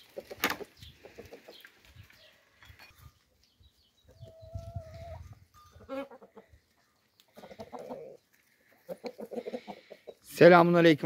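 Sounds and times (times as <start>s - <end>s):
hens clucking: 0.0s - 3.1s, 4.0s - 10.6s.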